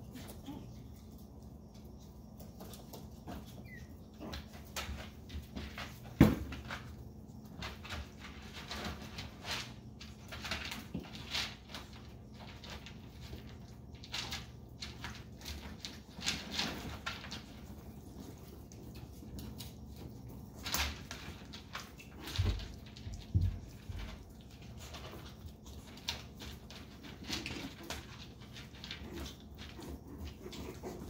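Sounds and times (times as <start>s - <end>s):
paws clicking on tile: 0.0s - 31.0s.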